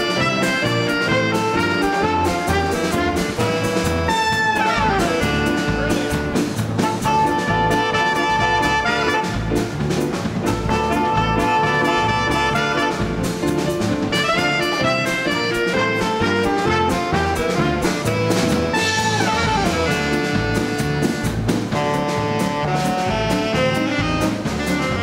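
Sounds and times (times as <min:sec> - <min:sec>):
big band dance orchestra playing: 0:00.0 - 0:25.0
falling slide in the horns: 0:00.0 - 0:25.0.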